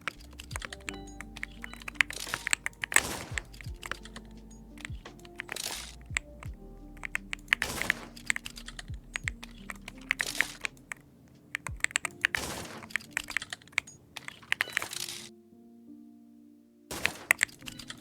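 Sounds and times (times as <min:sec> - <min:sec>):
keyboard keys clacking: 0:00.0 - 0:15.8, 0:16.5 - 0:18.0.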